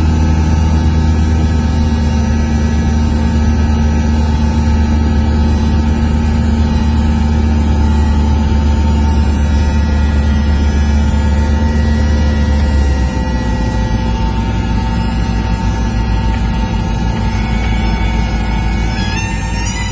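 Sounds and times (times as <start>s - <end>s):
propeller plane engine droning: 0.0s - 19.9s.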